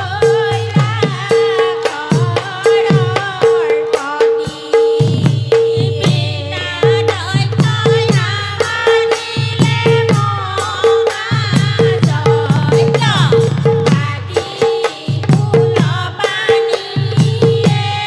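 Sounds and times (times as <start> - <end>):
barrel drum beating: 0.0 - 18.0
women singing folk song: 0.0 - 18.0.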